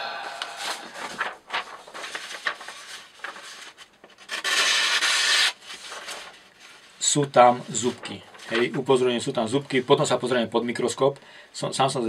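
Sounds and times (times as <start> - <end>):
rubbing and rustling handling: 0.6 - 10.4.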